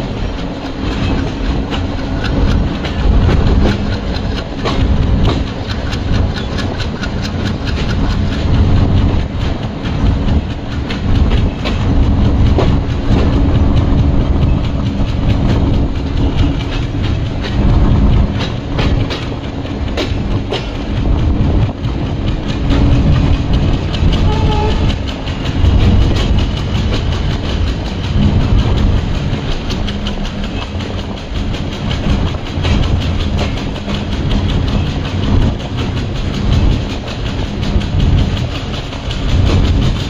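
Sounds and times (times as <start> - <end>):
clacks over rail joints: 0.0 - 40.0
locomotive engine drone: 0.0 - 40.0
train wheels rumbling on rails: 0.0 - 40.0.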